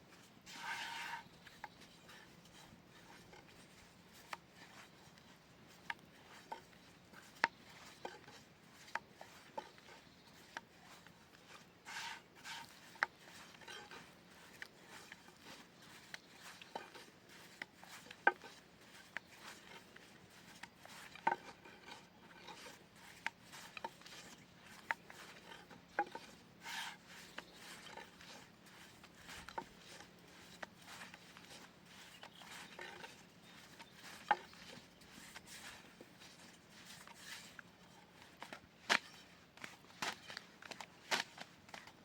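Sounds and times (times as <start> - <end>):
objects being handled: 0.0 - 42.0.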